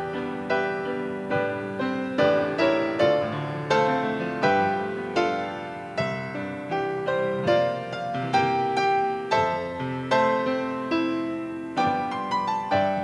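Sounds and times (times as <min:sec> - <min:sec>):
slow piano piece: 0:00.0 - 0:13.0.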